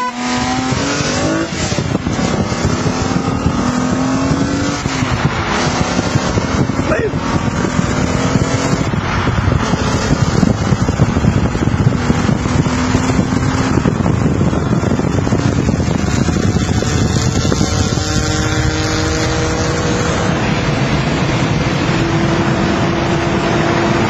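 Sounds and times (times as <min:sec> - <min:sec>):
car engine accelerating: 0:00.0 - 0:24.0
wind and road noise: 0:00.0 - 0:24.0.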